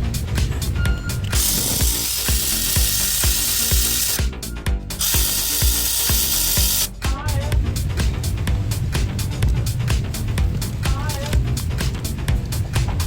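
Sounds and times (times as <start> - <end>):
background music with beat: 0.0 - 13.0.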